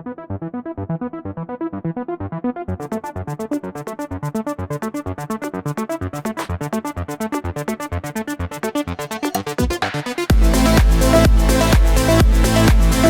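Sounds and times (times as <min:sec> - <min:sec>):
electronic synthesizer music: 0:00.3 - 0:13.0.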